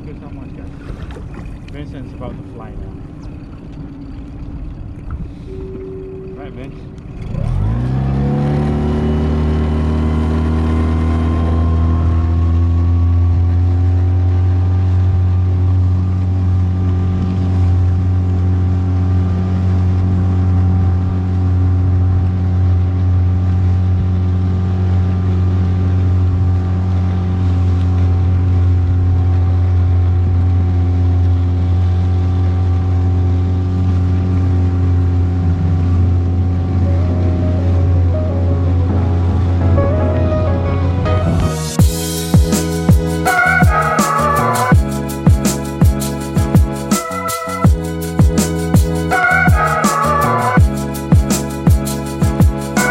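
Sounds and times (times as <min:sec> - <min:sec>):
motorboat engine revving: 0:00.0 - 0:52.9.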